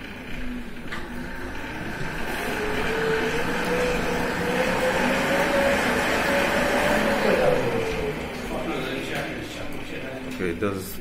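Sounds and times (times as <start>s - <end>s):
exercise bike flywheel whirring: 0.0s - 10.7s.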